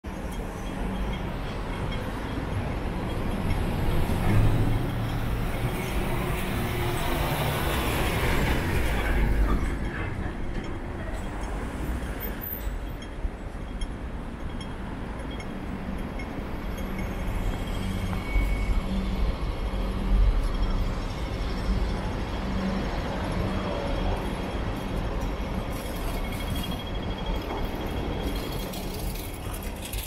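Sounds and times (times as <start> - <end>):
road traffic driving past: 0.1 - 30.0.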